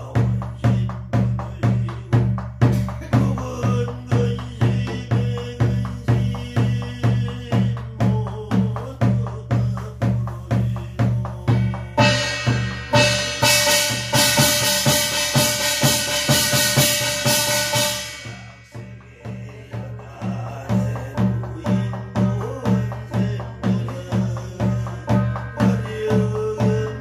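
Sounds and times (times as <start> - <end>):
barrel drum beaten with stick: 0.0 - 27.0
person chanting: 3.0 - 27.0.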